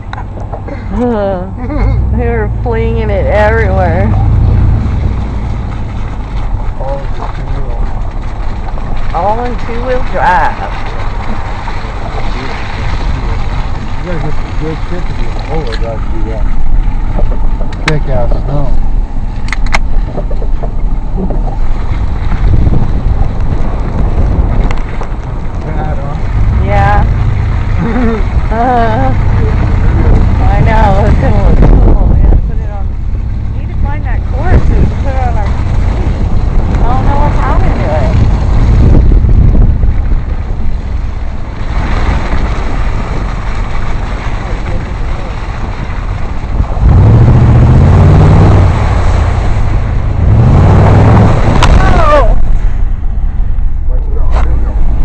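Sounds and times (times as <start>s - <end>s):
truck engine rumble: 0.0s - 55.0s
wind buffeting microphone: 0.0s - 55.0s
water sloshing and splashing: 2.0s - 55.0s.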